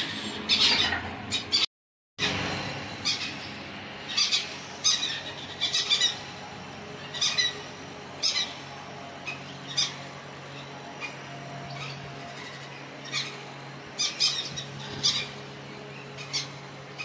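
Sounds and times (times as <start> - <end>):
parrots squawking: 0.0 - 1.7, 4.1 - 6.4, 7.0 - 17.0.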